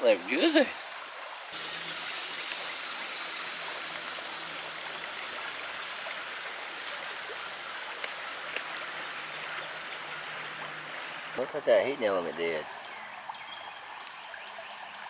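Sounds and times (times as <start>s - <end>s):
creek water over rapids: 0.0s - 15.0s.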